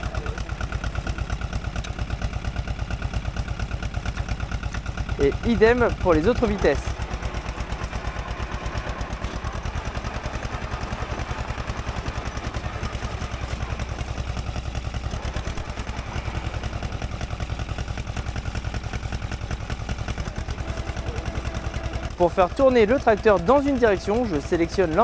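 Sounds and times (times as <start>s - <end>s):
diesel engine knocking: 0.0s - 25.0s.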